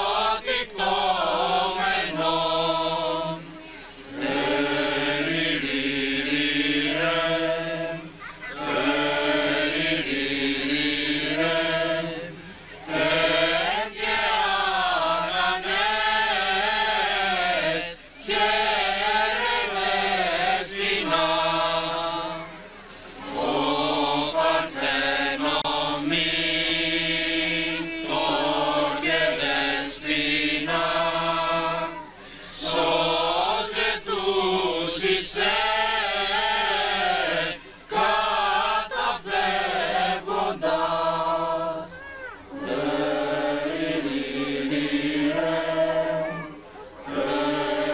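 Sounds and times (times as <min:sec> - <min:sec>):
choir singing a carol: 0:00.0 - 0:47.9.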